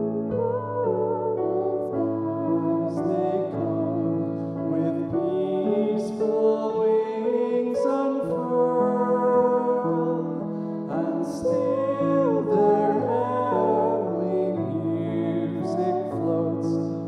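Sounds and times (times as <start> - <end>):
keyboard: 0.0 - 17.0
people singing worship song: 0.0 - 17.0.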